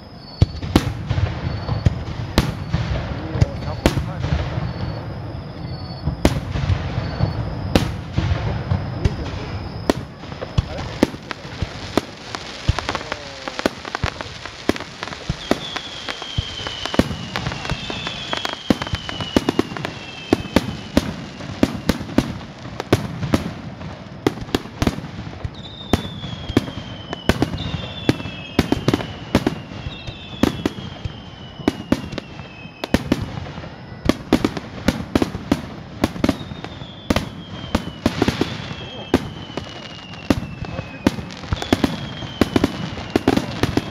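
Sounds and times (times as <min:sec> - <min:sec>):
whistles gliding downward: 0:00.0 - 0:22.4, 0:25.5 - 0:34.5, 0:36.1 - 0:43.9
fireworks bursting bangs: 0:00.0 - 0:43.9.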